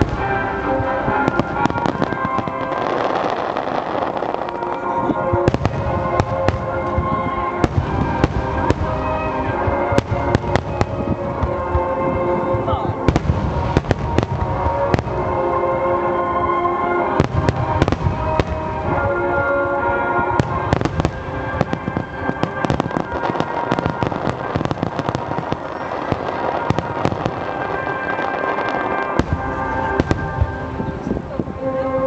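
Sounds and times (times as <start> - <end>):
fireworks bangs: 0.0 - 32.0
fireworks crackling: 0.0 - 32.0
music: 0.0 - 32.0.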